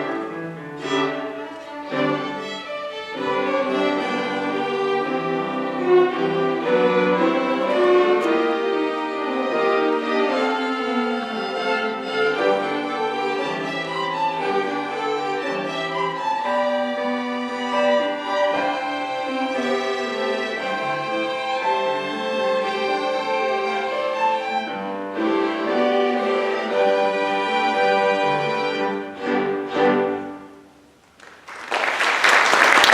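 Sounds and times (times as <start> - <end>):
cellos: 0.0 - 31.0
violins: 0.0 - 31.0.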